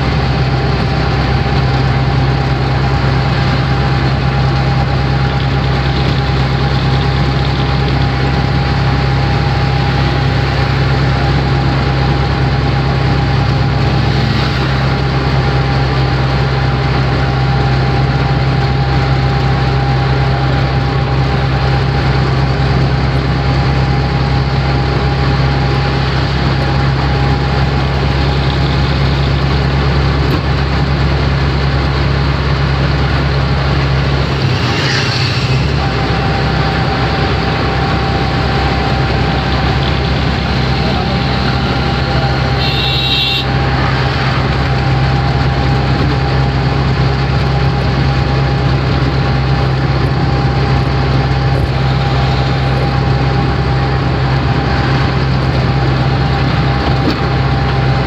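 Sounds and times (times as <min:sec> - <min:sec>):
road noise: 0:00.0 - 0:58.0
small engine running: 0:00.0 - 0:58.0
thin steady whine: 0:00.0 - 0:58.0.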